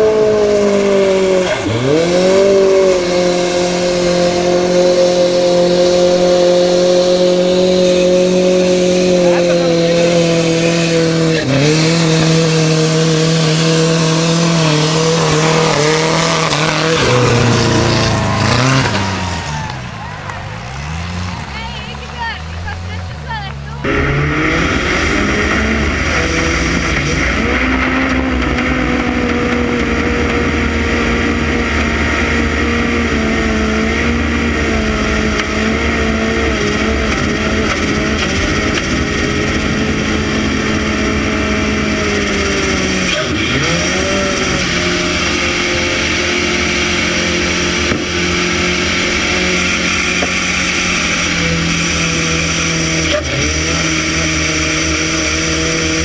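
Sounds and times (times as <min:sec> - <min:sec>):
buggy engine at high revs: 0:00.0 - 0:56.0
car driving through muddy water: 0:00.0 - 0:56.0.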